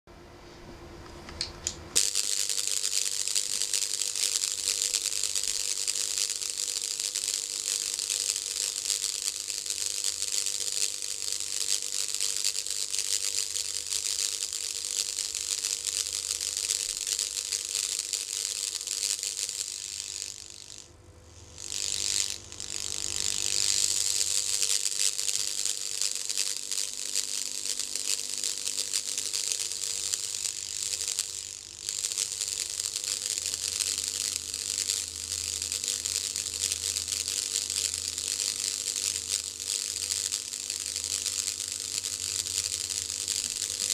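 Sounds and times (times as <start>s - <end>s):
high-voltage sparks crackling: 2.0s - 43.9s.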